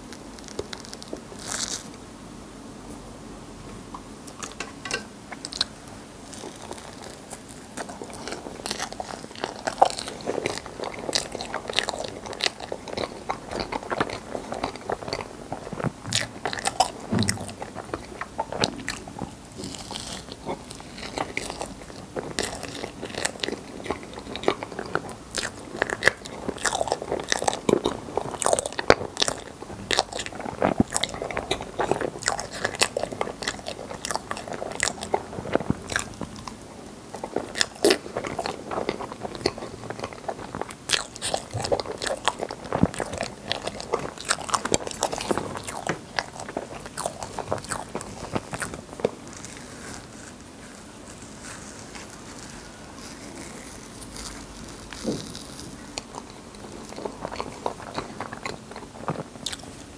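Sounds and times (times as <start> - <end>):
person chewing: 0.0 - 1.9, 4.3 - 59.9.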